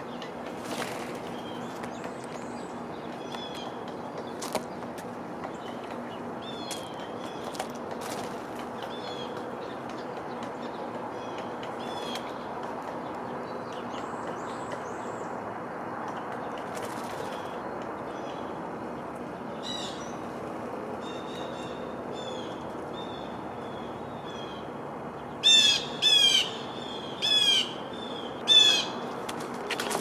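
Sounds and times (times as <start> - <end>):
songbirds chirping: 0.0 - 30.0
steady background hiss and rumble: 0.0 - 30.0.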